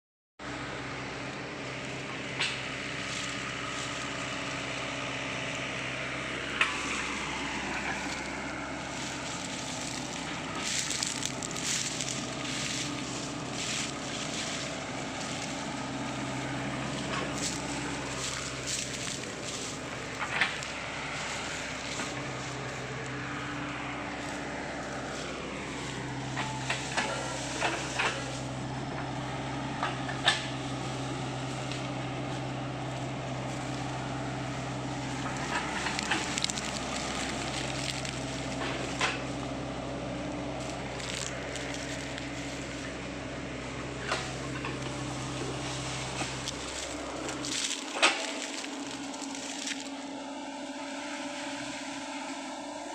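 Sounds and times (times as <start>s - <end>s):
excavator diesel engine running: 0.4s - 52.9s
dry brush cracking and snapping: 1.8s - 52.1s.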